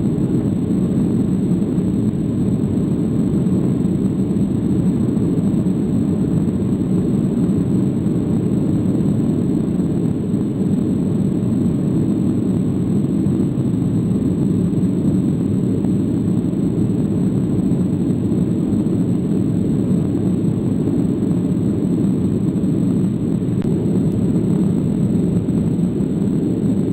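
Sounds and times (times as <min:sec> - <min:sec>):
jet engines roaring: 0:00.0 - 0:26.9.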